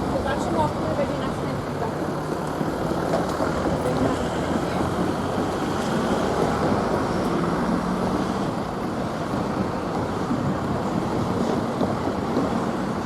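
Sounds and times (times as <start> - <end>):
railcar engine drone: 0.0 - 13.0
train rolling noise: 0.0 - 13.0.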